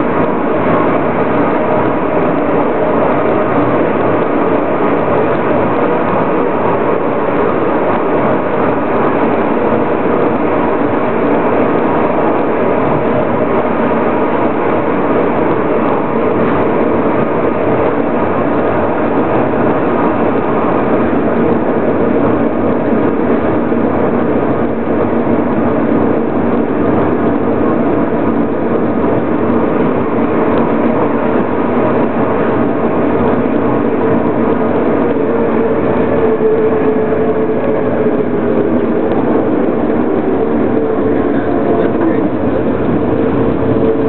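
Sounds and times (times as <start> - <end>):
rack railcar running: 0.0 - 44.0.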